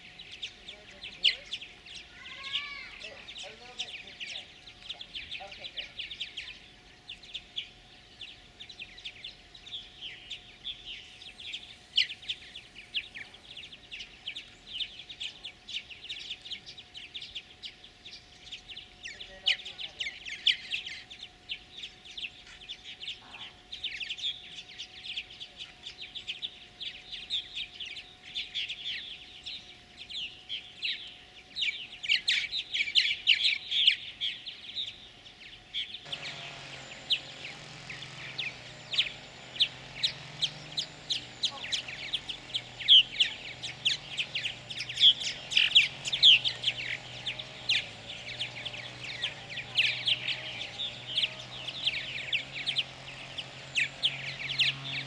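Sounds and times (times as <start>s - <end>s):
birds chirping and chattering: 0.0s - 55.0s.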